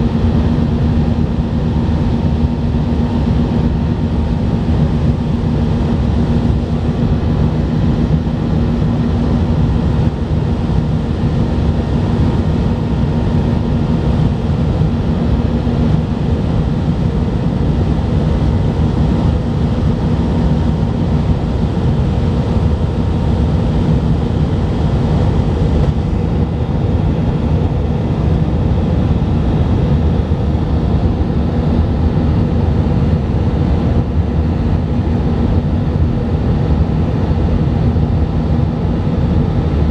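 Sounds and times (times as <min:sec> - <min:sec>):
constant low hum: 0:00.0 - 0:39.9
jet engine rush in cabin: 0:00.0 - 0:39.9.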